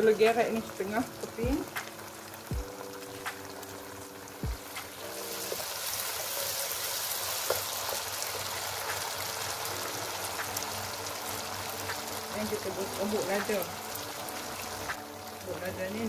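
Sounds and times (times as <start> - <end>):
sauce sizzling in a pan: 0.0 - 16.0.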